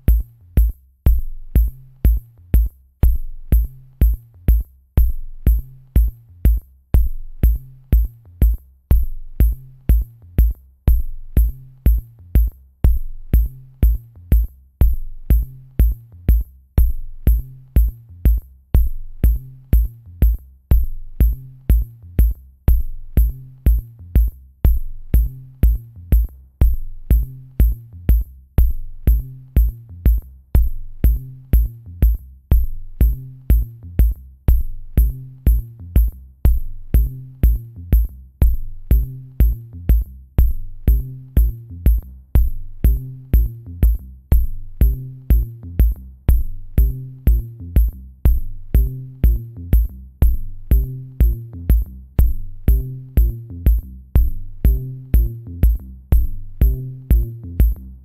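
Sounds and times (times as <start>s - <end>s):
electronic drum-machine beat: 0.0s - 58.0s
repeating bass line: 1.1s - 58.0s.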